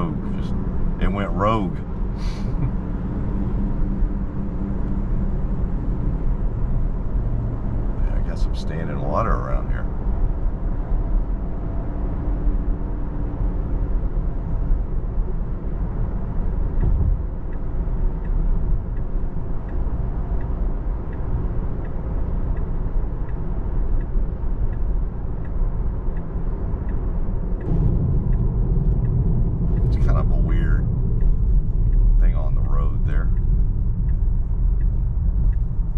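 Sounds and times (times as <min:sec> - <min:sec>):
tyre road noise: 0:00.0 - 0:35.9.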